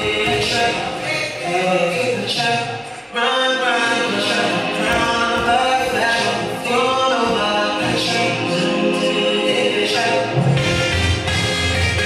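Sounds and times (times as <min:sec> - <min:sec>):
song with sung vocals: 0:00.0 - 0:12.0.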